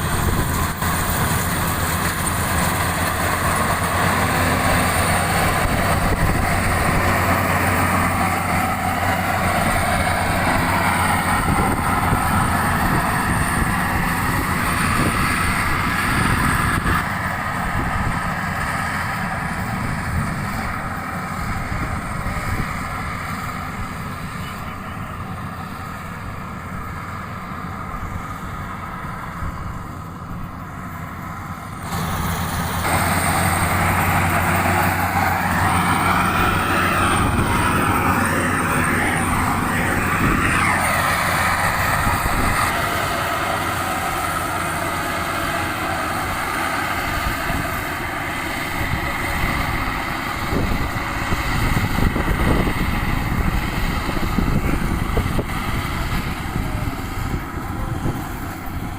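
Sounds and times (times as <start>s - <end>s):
combine harvester engine running: 0.0s - 58.9s
cutting and threshing noise: 0.0s - 58.9s.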